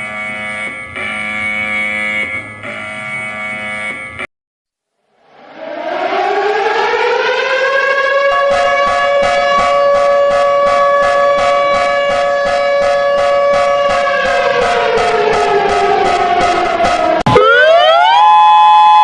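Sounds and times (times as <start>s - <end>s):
two-tone siren wailing: 0.0s - 4.3s, 5.1s - 19.0s.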